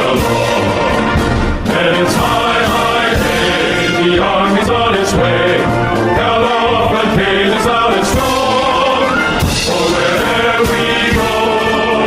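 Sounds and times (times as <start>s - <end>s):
chanted choir-like song with beat: 0.0s - 12.0s.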